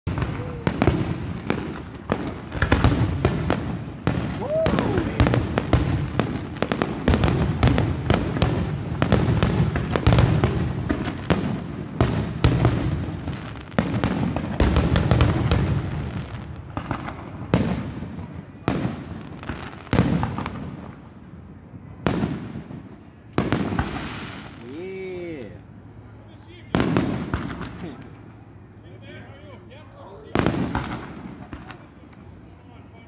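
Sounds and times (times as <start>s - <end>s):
fireworks bursting: 0.0s - 25.4s, 26.6s - 28.7s, 30.2s - 32.8s.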